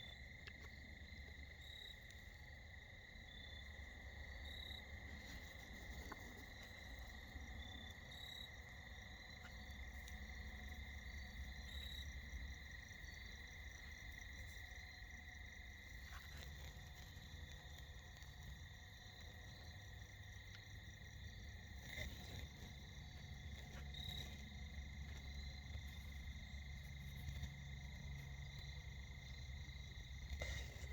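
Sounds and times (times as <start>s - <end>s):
crickets and insects trilling: 0.0s - 30.9s.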